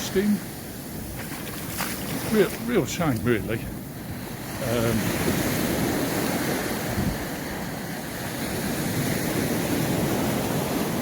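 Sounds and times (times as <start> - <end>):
sea surf washing onto beach: 0.0 - 11.0
wind buffeting microphone: 0.0 - 11.0.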